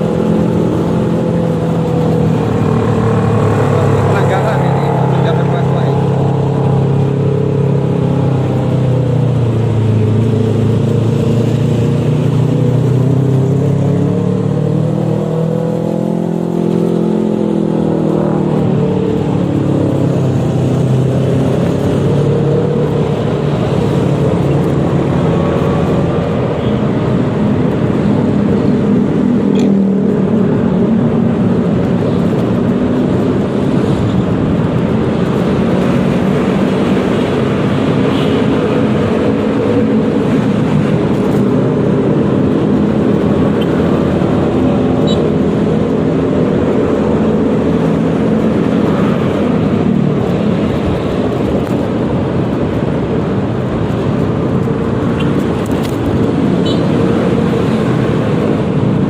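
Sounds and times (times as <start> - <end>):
road and wind noise: 0.0 - 59.0.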